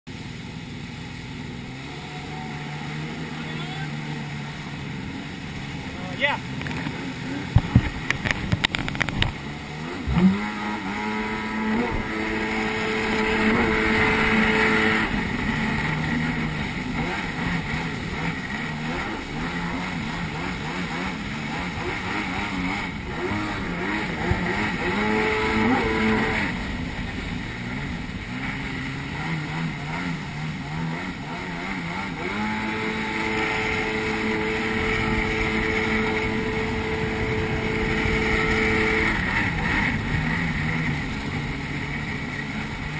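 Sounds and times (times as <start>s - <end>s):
jet ski engine running: 0.1s - 42.9s.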